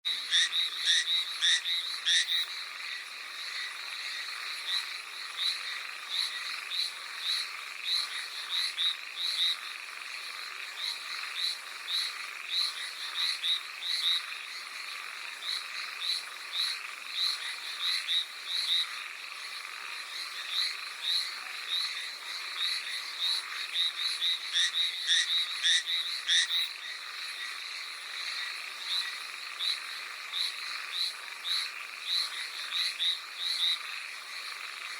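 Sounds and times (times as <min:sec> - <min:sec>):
tree frogs calling: 0:00.1 - 0:34.9.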